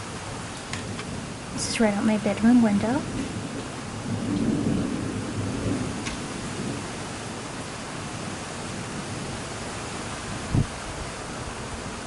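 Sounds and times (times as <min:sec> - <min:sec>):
light rain hissing: 0:00.0 - 0:12.0
distant thunder rumble: 0:00.6 - 0:11.8.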